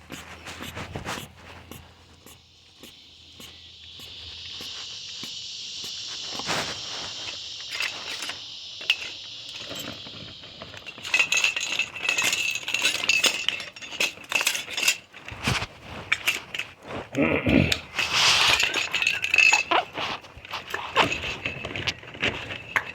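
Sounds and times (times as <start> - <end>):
steady high hiss: 0.0 - 22.9.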